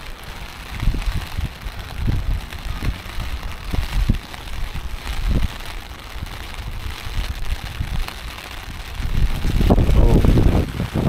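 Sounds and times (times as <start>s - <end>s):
low thumps and rumbles: 0.0s - 11.0s
rain hissing on umbrella: 0.0s - 11.0s.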